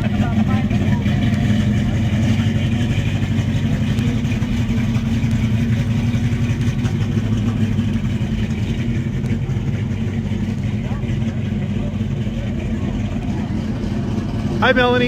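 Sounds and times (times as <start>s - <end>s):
hot rod engine idling: 0.0s - 15.0s.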